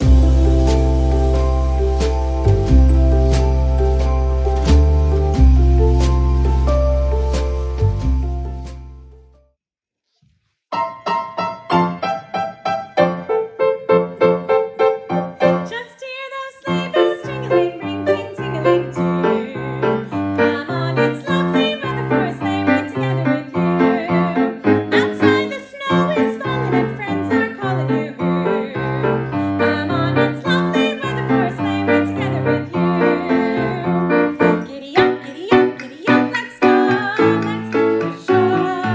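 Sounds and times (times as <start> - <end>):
piano music: 0.0 - 9.6, 10.7 - 38.9.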